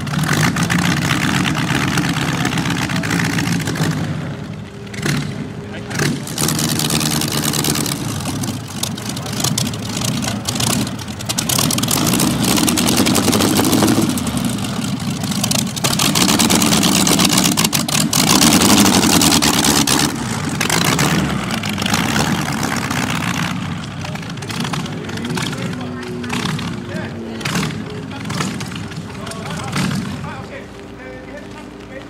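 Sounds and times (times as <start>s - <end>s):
engine idling and revving: 0.0s - 32.0s.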